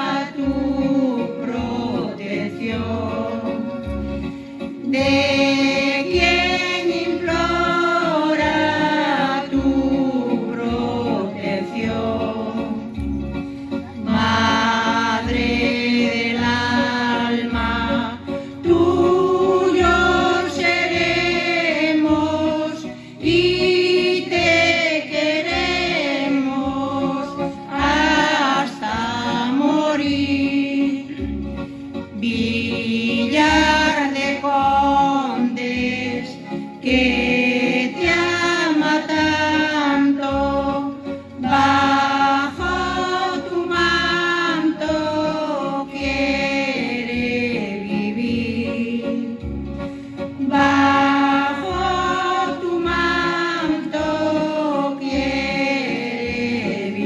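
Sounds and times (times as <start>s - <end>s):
small choir singing a hymn: 0.0s - 4.0s, 4.8s - 13.0s, 13.8s - 31.4s, 32.2s - 49.6s, 50.4s - 57.0s.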